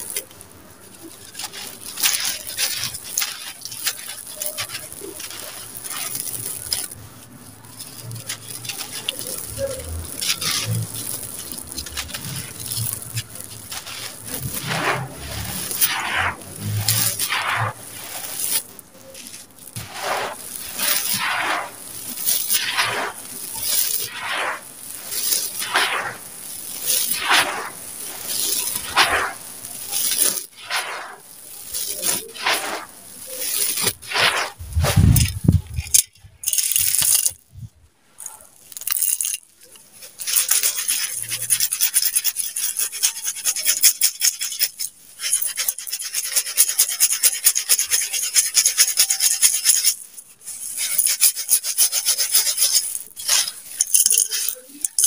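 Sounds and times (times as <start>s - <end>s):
grit pouring from a steel bowl: 0.0s - 37.5s, 38.2s - 55.0s
sand crunching as it is poured: 0.0s - 55.0s.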